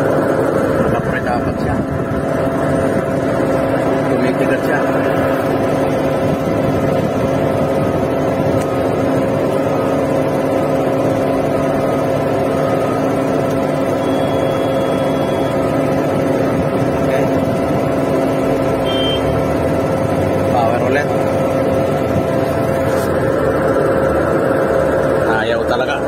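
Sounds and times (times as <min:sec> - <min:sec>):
concrete pump engine droning: 0:00.0 - 0:26.0.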